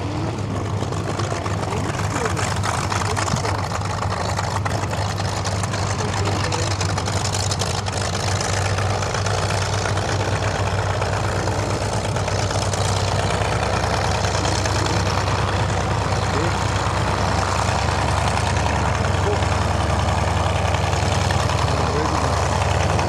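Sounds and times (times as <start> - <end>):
radial engine idling: 0.0 - 23.0.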